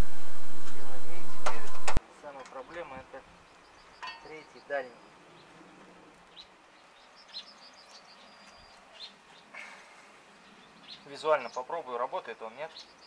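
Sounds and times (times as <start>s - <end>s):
background hiss: 0.0s - 13.0s
birds chirping: 0.7s - 13.0s.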